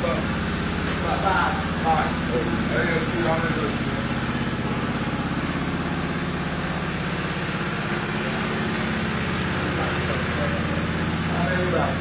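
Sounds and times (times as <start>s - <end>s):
machinery droning with fast pulse: 0.0s - 12.0s.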